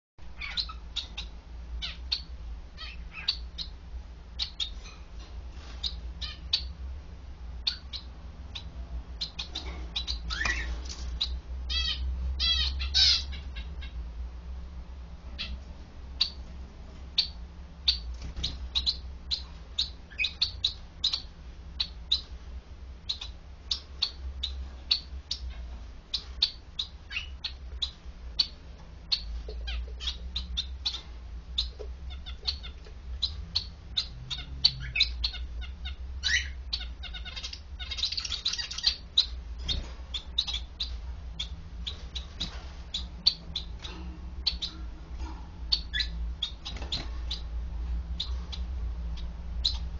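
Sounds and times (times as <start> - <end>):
finches chirping: 0.4 - 3.8, 4.4 - 6.8, 7.6 - 14.0, 15.4 - 15.6, 16.2 - 16.5, 17.1 - 22.4, 23.0 - 49.9.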